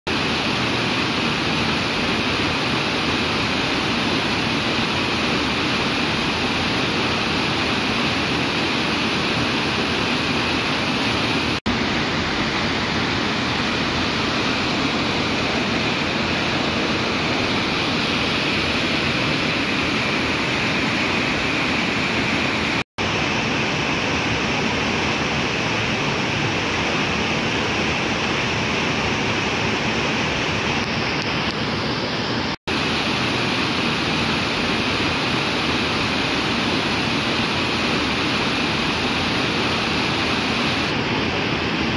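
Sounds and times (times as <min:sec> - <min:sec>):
waterfall rushing: 0:00.1 - 0:41.9.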